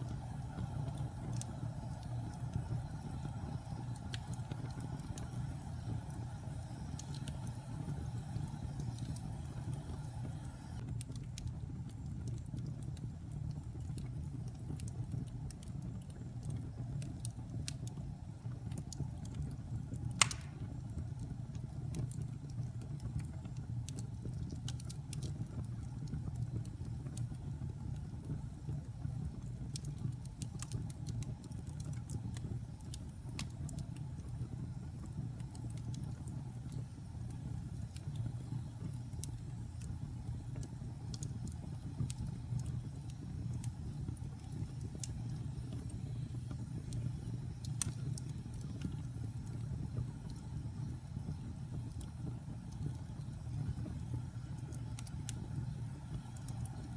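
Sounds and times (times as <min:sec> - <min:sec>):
fire crackling: 0:00.0 - 0:56.9
fire popping: 0:00.0 - 0:56.9
low rumble of flames: 0:00.0 - 0:56.9.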